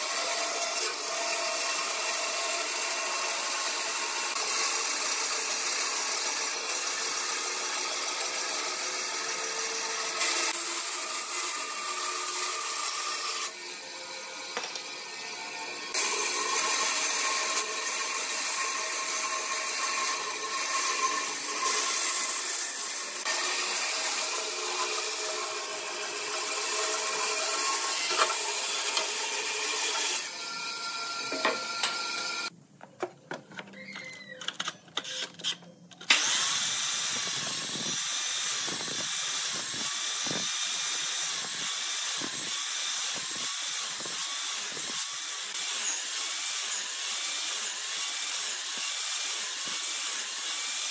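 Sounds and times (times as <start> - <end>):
bandsaw cutting wood: 0.0 - 32.5, 36.1 - 50.9
mitre saw cutting wood: 0.0 - 32.5, 36.1 - 50.9.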